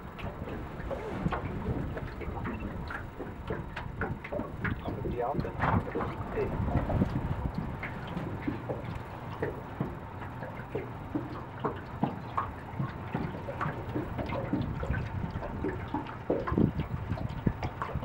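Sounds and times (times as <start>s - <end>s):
low steady rumble: 0.0s - 18.0s
water lapping against boat: 0.0s - 18.0s.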